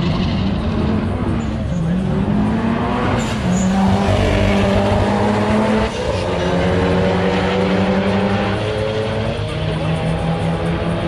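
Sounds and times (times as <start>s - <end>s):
car engine revving high: 2.0s - 11.0s.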